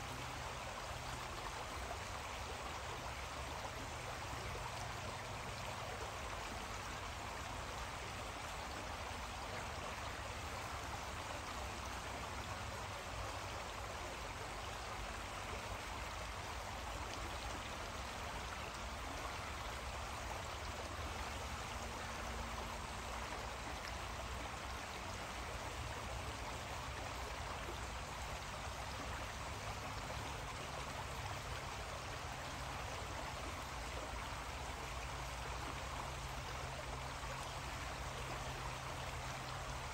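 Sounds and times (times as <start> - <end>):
creek running: 0.0 - 39.9.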